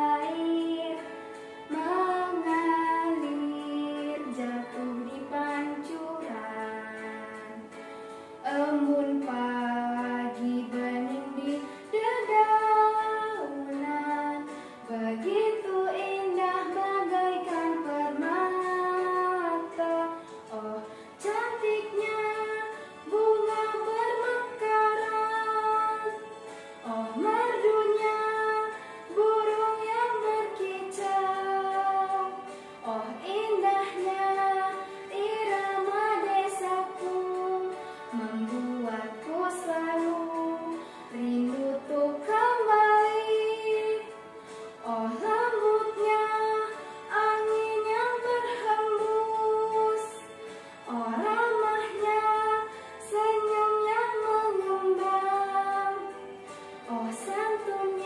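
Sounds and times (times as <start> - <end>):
girl singing: 0.0 - 7.8, 8.4 - 44.2, 44.8 - 50.3, 50.9 - 56.3, 56.9 - 58.0
instrumental accompaniment: 0.0 - 58.0.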